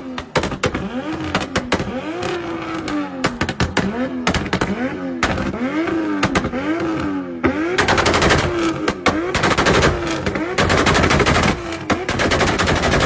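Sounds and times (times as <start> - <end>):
car engine revving: 0.0 - 13.0
exhaust crackling pops and bangs: 0.0 - 13.0.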